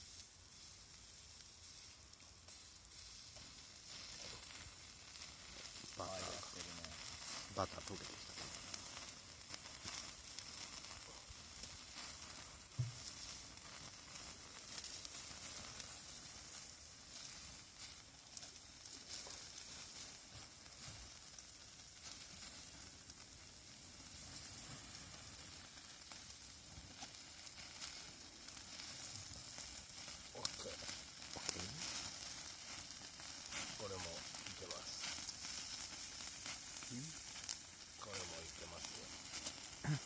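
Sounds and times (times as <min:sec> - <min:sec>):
steak sizzling in butter: 0:00.0 - 0:40.0.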